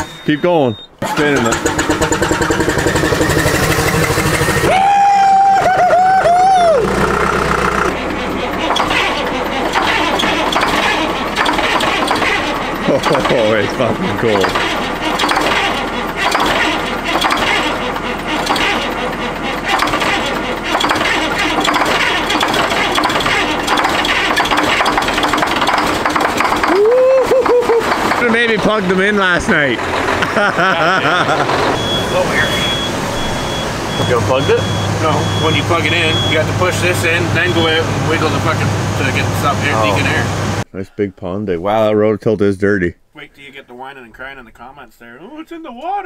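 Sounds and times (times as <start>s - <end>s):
diesel engine cranking and running: 0.0s - 40.7s.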